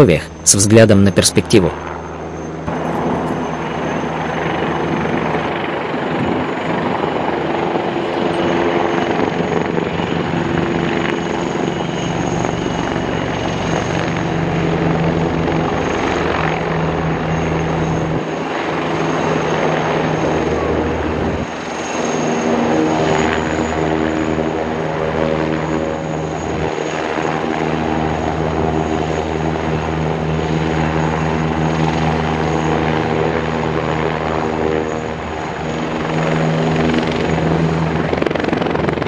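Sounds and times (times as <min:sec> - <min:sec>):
high turbine whine: 0:00.0 - 0:39.0
helicopter flying past: 0:00.1 - 0:39.0.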